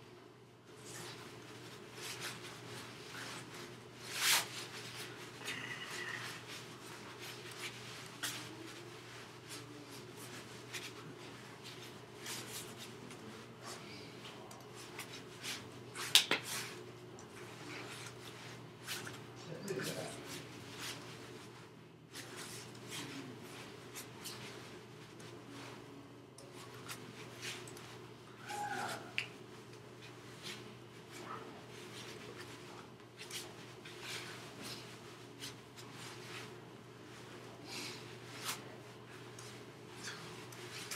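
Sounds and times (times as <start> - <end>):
low electrical hum: 0.0 - 40.9
rustling of hands and sleeves: 0.7 - 40.9.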